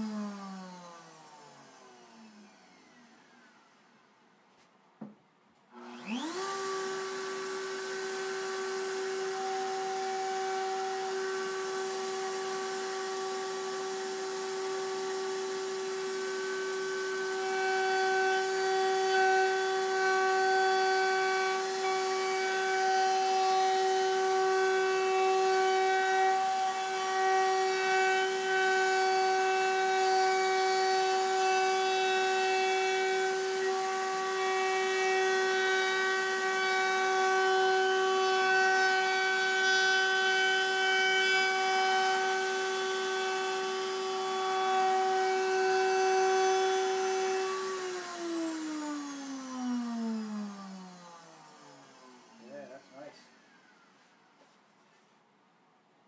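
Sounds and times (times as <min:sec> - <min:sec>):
wood router whining: 0:00.0 - 0:04.2, 0:05.0 - 0:55.0.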